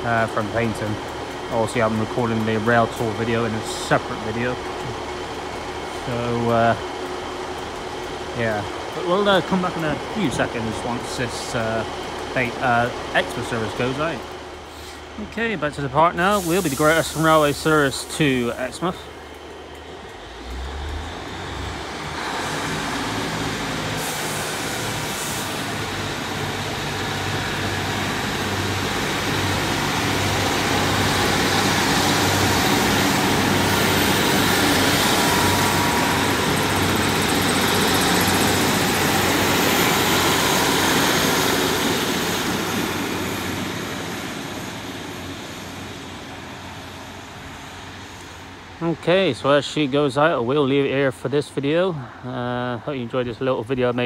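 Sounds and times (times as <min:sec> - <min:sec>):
train diesel engines running: 0:00.0 - 0:54.0
train wheels rumbling on rails: 0:00.0 - 0:54.0.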